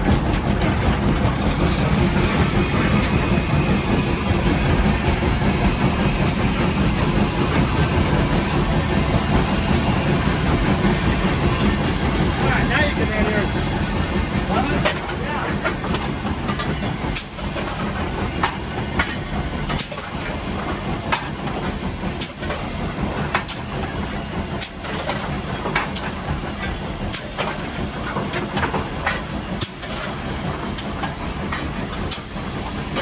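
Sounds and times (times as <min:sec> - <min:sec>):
sharp locomotive exhaust beats: 0:00.0 - 0:33.0
steam locomotive roar and hiss: 0:00.0 - 0:33.0.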